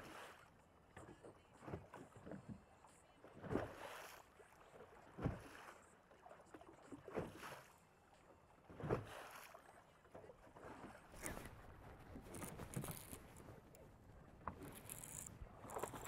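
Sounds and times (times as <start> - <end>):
waves slapping a boat hull: 0.0 - 16.0
wind: 0.0 - 16.0.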